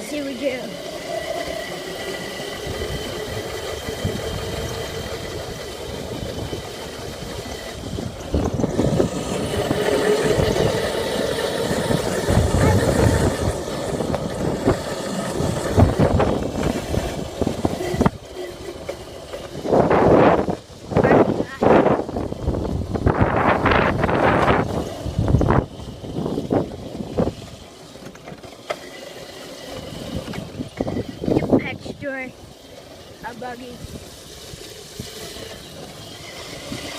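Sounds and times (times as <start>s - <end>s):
dirt bike engine running: 0.0s - 36.9s.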